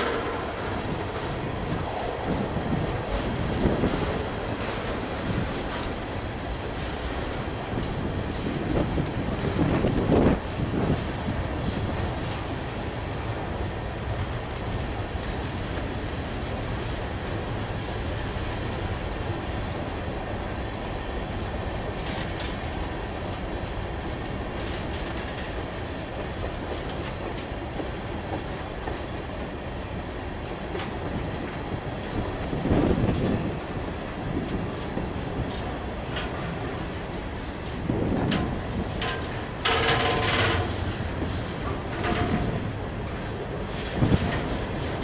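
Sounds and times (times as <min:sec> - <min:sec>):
freight train wheels rumbling: 0:00.0 - 0:45.0
wheels clicking over rail joints: 0:00.0 - 0:45.0.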